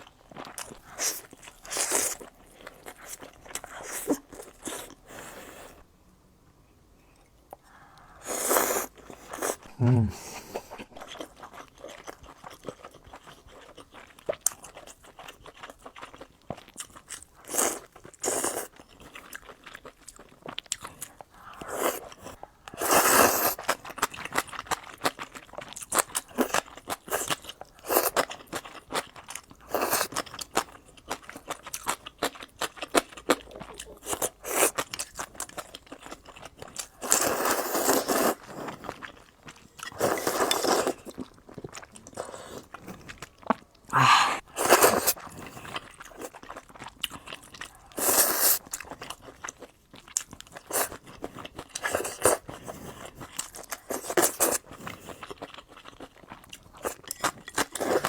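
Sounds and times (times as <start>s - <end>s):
person chewing and crunching: 0.0s - 5.8s, 7.5s - 58.0s.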